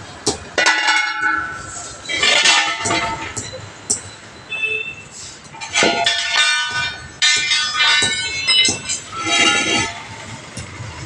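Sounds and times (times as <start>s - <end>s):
steel wheel rim clanging on concrete: 0.3s - 4.1s, 5.5s - 11.0s.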